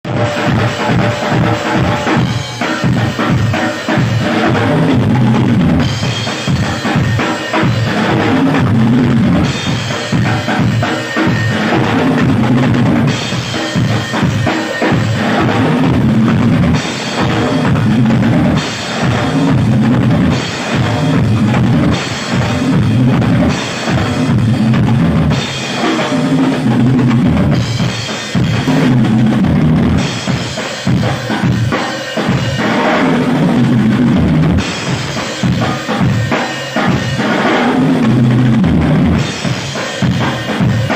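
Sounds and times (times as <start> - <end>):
drum kit playing fast: 0.0 - 40.9
cymbals: 0.1 - 40.9.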